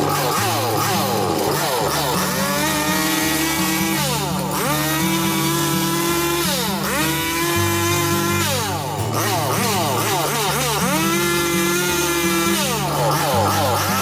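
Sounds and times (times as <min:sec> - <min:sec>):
chainsaw running at high revs: 0:00.0 - 0:14.0.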